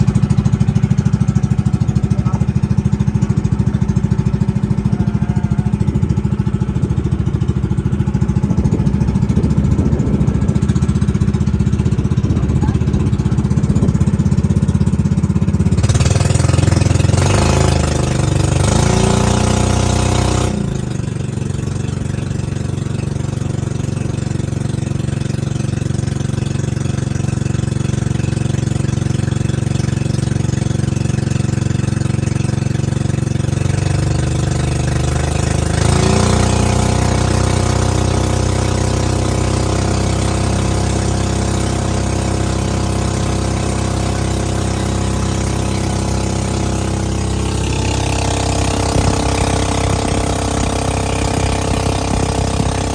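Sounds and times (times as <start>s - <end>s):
boat engine running: 0.0s - 52.9s.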